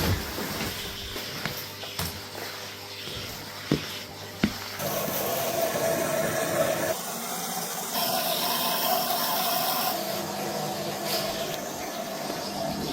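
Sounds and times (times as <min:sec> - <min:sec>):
washing machine running: 0:00.0 - 0:12.9.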